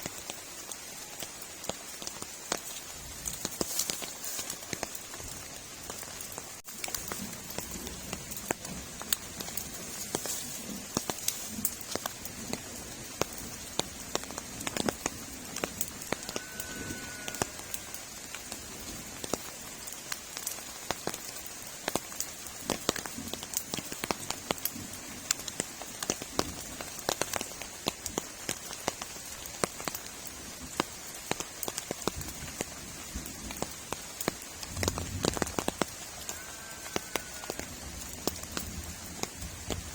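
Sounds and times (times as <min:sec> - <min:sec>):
heavy rain falling: 0:00.0 - 0:39.9
rain drops hitting close by: 0:00.0 - 0:39.9.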